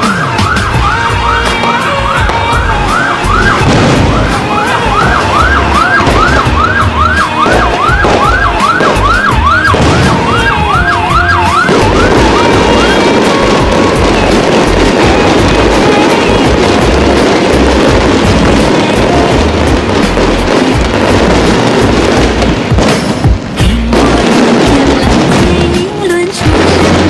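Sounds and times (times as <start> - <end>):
fireworks crackling and bangs: 0.0 - 27.0
whistling fireworks: 0.0 - 27.0.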